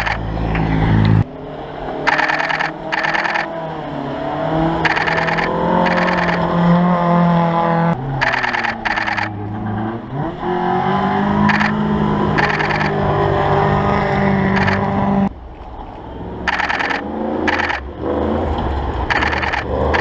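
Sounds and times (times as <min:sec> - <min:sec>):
rally car engine at high revs: 0:00.0 - 0:15.3, 0:16.3 - 0:20.0
car engine accelerating: 0:00.0 - 0:20.0.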